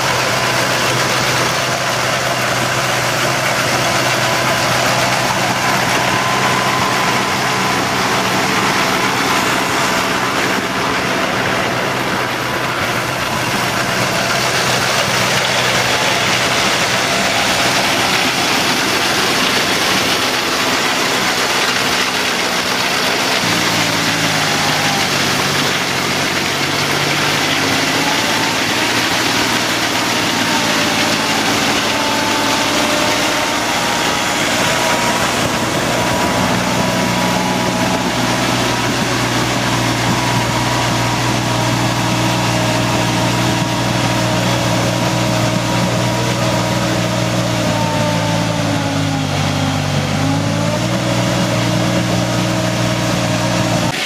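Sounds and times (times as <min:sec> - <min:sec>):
conveyor clatter and hiss: 0:00.0 - 0:47.4, 0:51.4 - 0:54.0
engine running: 0:00.0 - 0:54.0.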